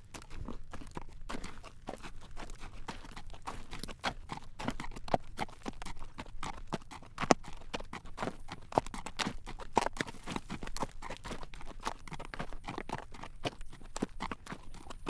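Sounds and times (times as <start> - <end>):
horse hooves clip-clopping on pavement: 0.0 - 15.0.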